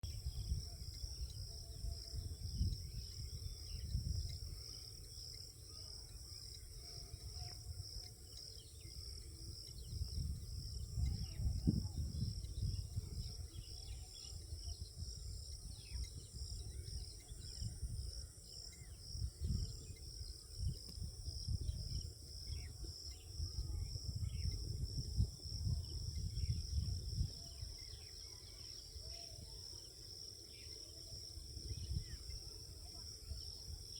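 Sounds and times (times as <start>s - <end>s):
insect chorus pulsing trill: 0.0s - 33.9s.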